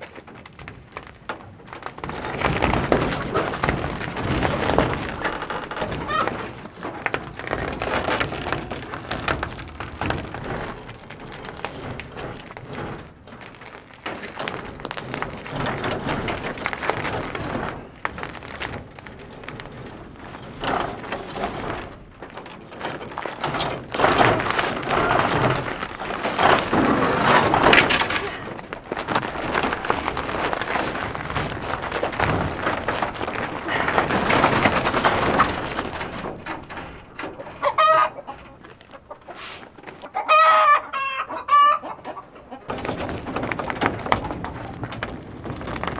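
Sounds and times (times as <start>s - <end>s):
crunching and cracking ice: 0.0s - 41.7s, 42.7s - 45.9s.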